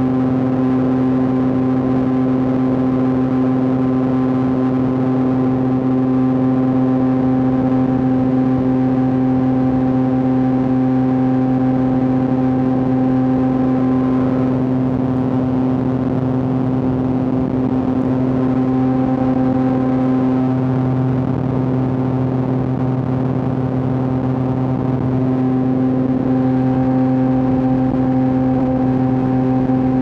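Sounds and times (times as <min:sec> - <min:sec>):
motorcycle engine and exhaust cruising: 0:00.0 - 0:30.0.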